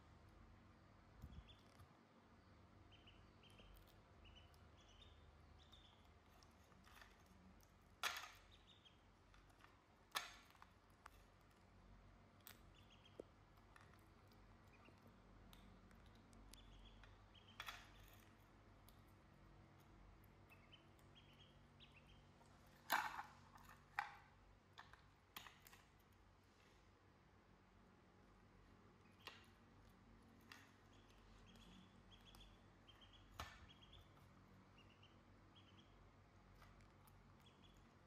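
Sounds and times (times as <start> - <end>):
ducklings peeping: 1.0 - 23.2, 28.8 - 38.0.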